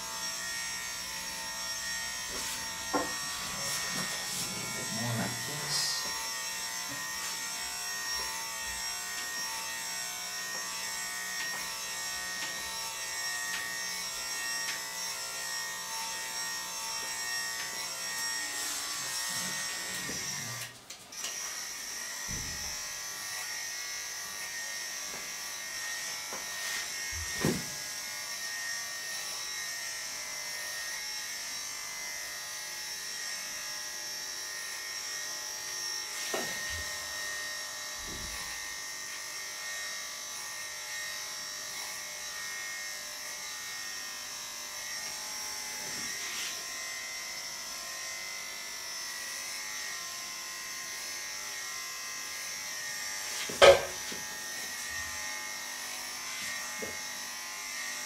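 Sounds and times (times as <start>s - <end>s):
electric clippers running: 0.0s - 58.0s.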